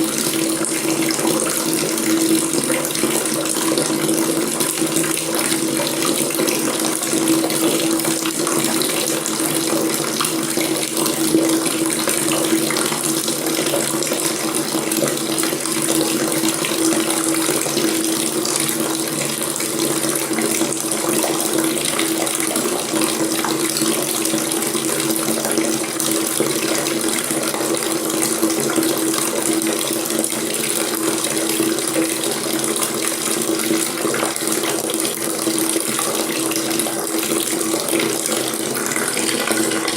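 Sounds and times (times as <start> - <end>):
tap running into a sink: 0.0 - 39.9.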